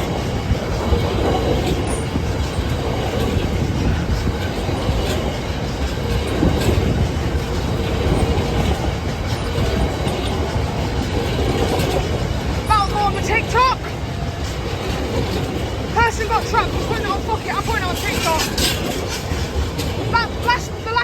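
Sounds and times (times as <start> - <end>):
freight train rumbling past: 0.0 - 21.0
wheels clattering over rails: 0.0 - 21.0.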